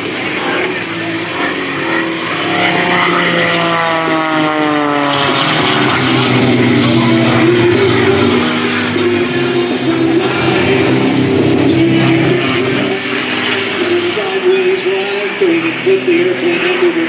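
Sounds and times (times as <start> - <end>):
plane engine and propeller: 0.0 - 17.0
rock music over loudspeakers: 0.0 - 17.0.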